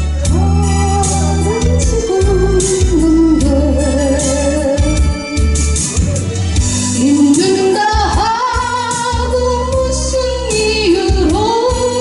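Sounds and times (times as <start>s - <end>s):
backing music with bass: 0.0s - 12.0s
woman singing: 0.2s - 5.6s, 6.9s - 12.0s.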